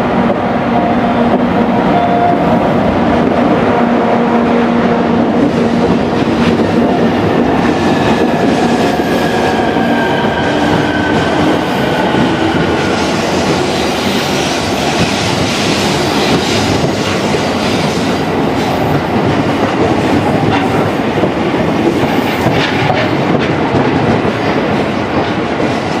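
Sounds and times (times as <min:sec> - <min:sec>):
train wheels rolling on rails: 0:00.0 - 0:26.0.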